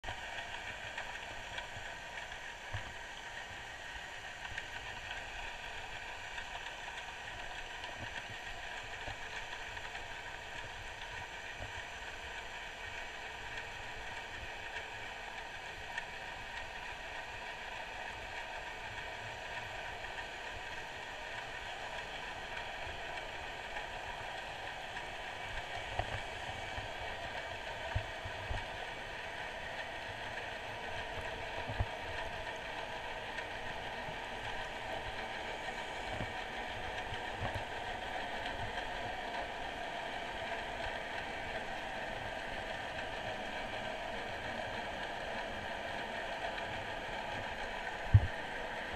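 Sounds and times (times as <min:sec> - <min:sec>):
faint humming tones: 0:00.1 - 0:48.9.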